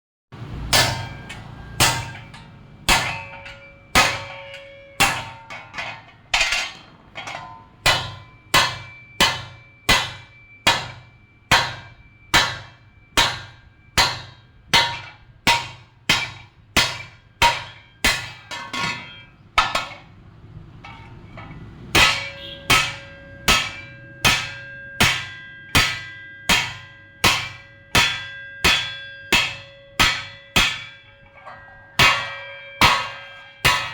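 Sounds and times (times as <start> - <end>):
hammer striking metal ringing: 0.5 - 20.2, 20.8 - 33.9.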